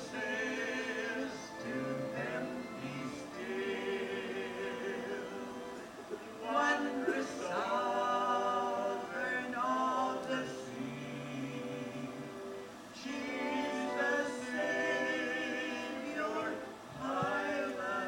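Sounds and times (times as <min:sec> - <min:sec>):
voices singing in harmony: 0:00.0 - 0:18.0.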